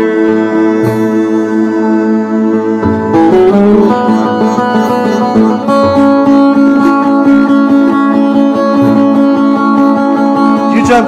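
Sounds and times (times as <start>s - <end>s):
long-necked lute picking: 0.0s - 11.0s
person singing: 0.0s - 11.0s.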